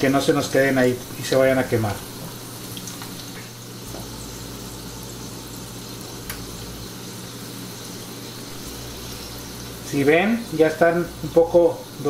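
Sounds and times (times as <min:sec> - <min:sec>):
garlic sizzling in hot oil: 0:00.0 - 0:12.0
low steady hum: 0:00.0 - 0:12.0.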